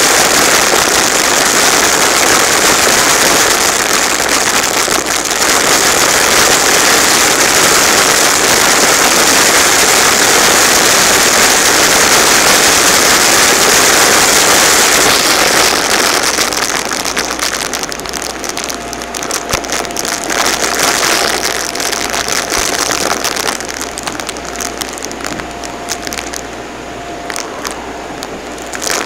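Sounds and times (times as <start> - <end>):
confetti crackling in vacuum: 0.0 - 26.6, 27.2 - 29.0
faint steady whine: 0.0 - 29.0
vacuum cleaner running: 5.6 - 29.0.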